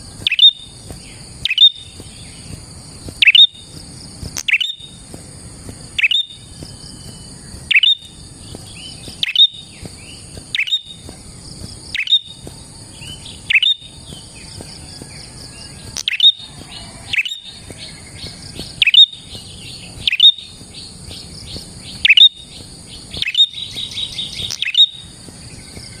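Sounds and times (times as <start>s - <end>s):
bird chirping and trilling: 0.0s - 3.8s, 4.4s - 5.0s, 5.8s - 26.0s.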